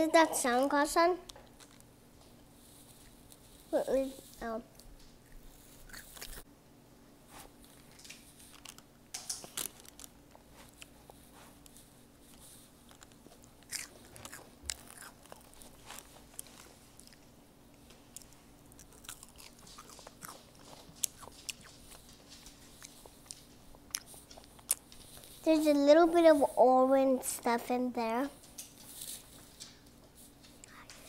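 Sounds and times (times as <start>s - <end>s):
faint steady hum: 0.0s - 31.0s
child chewing: 2.8s - 6.5s, 7.3s - 26.6s, 28.4s - 31.0s
crispy treat crackling and crunching: 2.9s - 6.4s, 7.4s - 31.0s.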